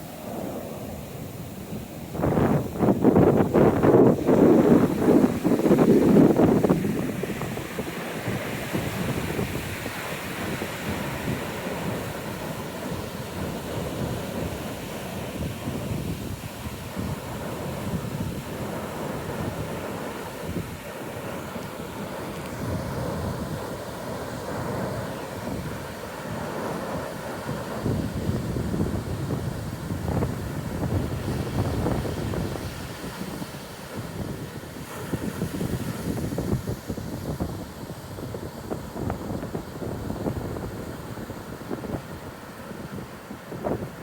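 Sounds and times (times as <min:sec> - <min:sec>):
ocean surf breaking: 0:00.0 - 0:44.0
wind buffeting microphone: 0:00.0 - 0:44.0.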